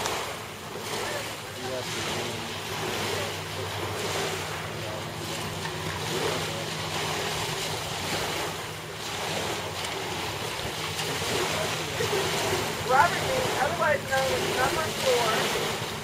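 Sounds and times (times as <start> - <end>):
small waves washing on beach: 0.0 - 16.0
steady low hum: 0.0 - 16.0.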